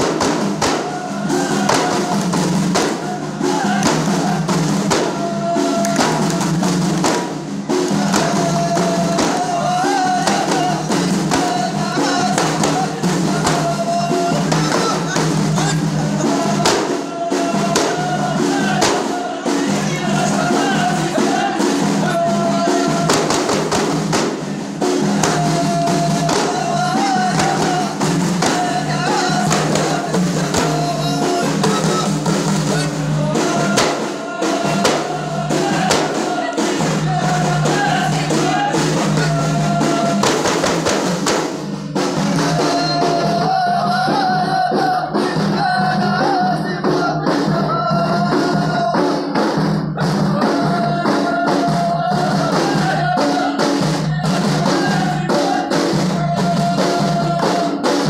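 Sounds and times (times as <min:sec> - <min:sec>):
frame drums beating: 0:00.0 - 0:58.0
men singing in chorus: 0:00.0 - 0:58.0.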